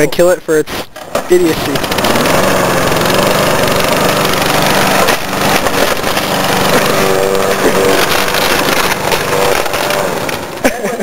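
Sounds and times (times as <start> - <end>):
lawn mower engine running: 0.7 - 11.0.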